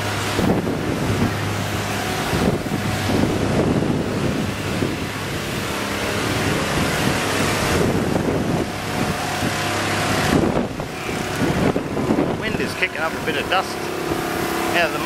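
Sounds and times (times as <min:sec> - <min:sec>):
pressure washer motor humming: 0:00.0 - 0:15.0.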